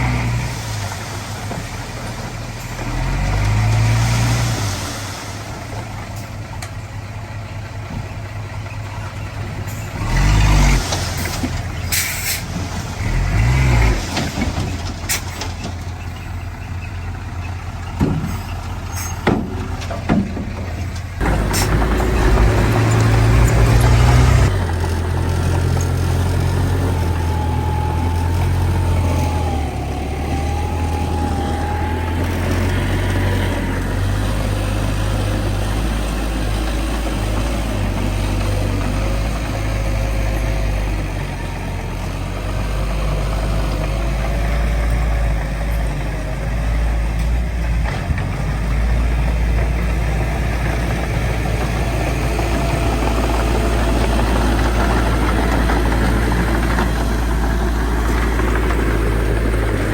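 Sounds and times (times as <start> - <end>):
diesel engines low rumble: 0.0 - 59.9.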